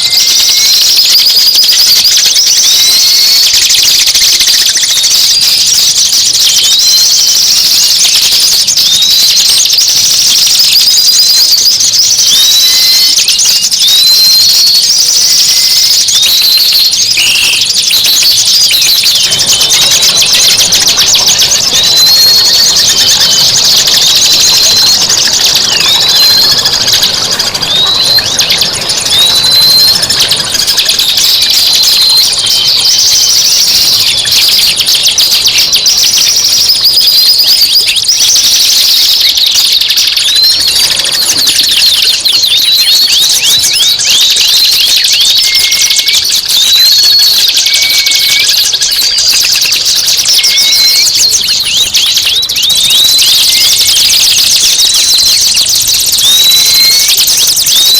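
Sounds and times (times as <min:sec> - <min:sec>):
rising bird whistle: 0:00.0 - 0:57.9
songbird chirps and trills: 0:00.0 - 0:57.9.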